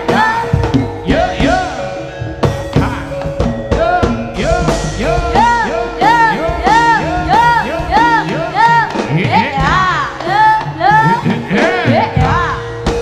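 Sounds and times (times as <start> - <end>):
quick repeating pitch-bending melody: 0.0 - 12.8
drum strokes: 0.0 - 13.0.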